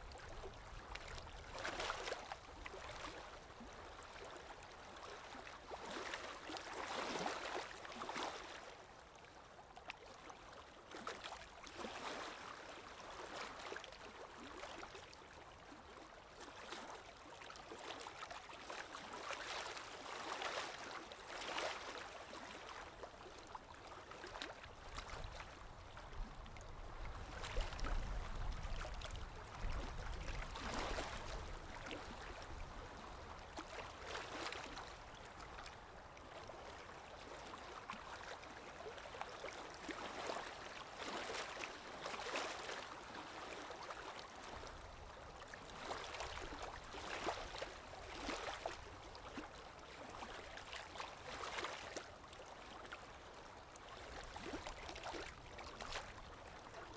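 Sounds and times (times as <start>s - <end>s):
stream water gurgling: 10.4s - 56.9s.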